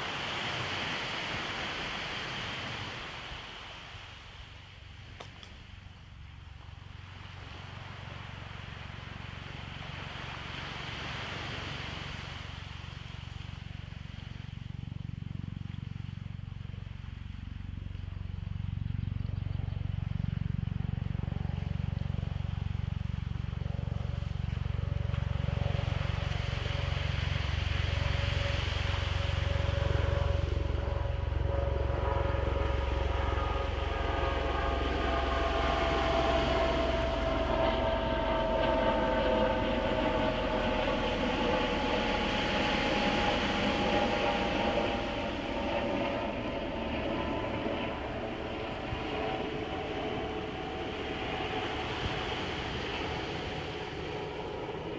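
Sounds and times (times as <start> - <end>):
motor low rumble: 3.2 - 54.9
droning tone: 5.9 - 54.9.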